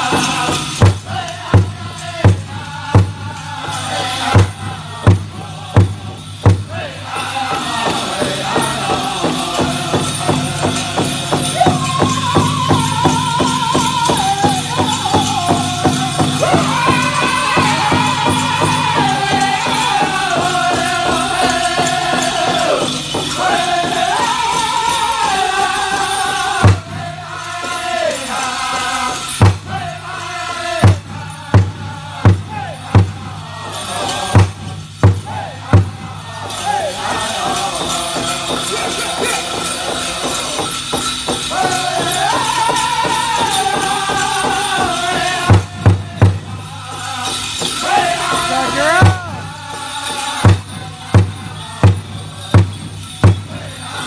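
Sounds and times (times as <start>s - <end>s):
big drum fast beat: 0.0s - 54.0s
men chanting together: 0.0s - 54.0s.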